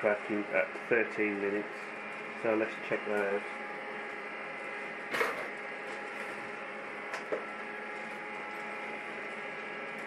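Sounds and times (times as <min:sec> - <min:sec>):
coffee roaster whirring hum: 0:00.0 - 0:10.0.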